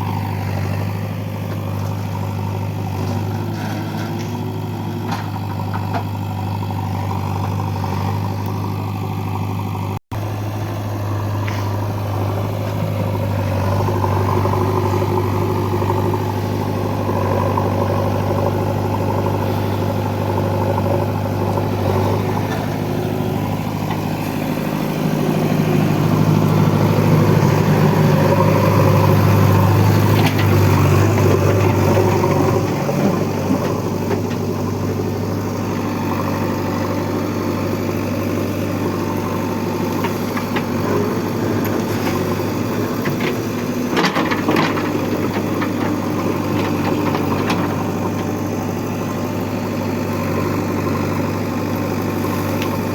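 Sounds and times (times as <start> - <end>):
heavy machinery diesel engine: 0.0 - 52.9.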